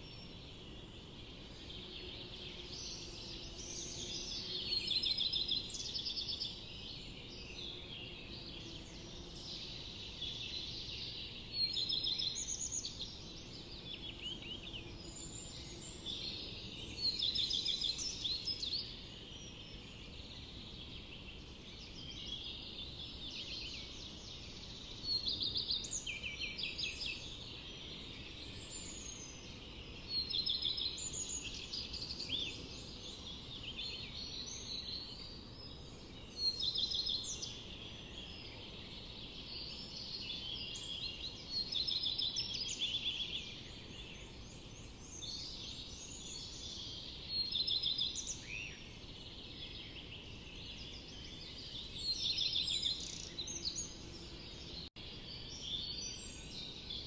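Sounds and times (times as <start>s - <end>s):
chorus of birdsong: 0.0s - 57.0s.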